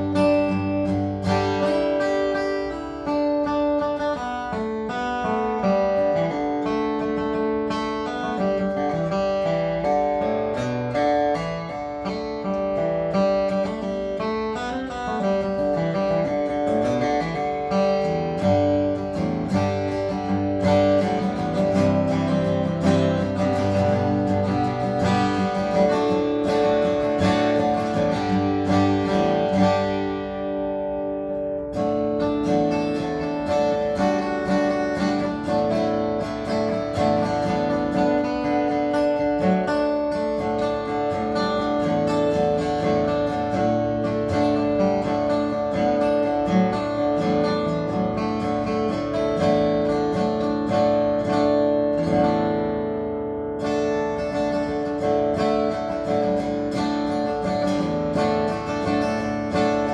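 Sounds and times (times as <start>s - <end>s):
acoustic guitar strummed chords: 0.0s - 59.9s.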